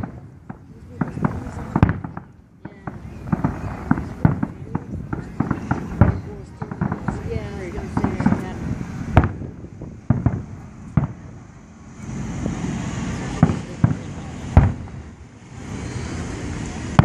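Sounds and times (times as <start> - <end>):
firework bangs: 0.0 - 17.0
steady rumble: 0.0 - 17.0.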